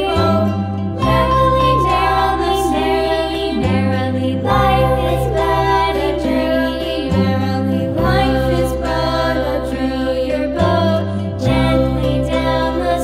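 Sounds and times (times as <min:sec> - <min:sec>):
choir-like singing voices: 0:00.0 - 0:13.0
steady bass: 0:00.0 - 0:13.0.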